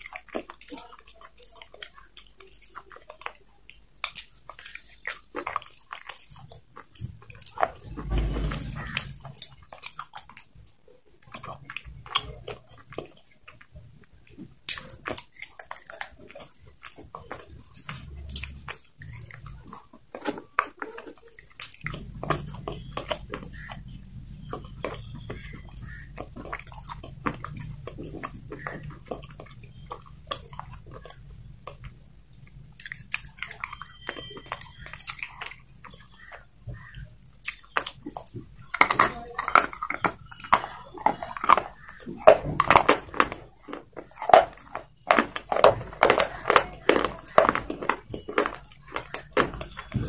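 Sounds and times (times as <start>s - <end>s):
crunchy chewing: 0.0s - 50.0s.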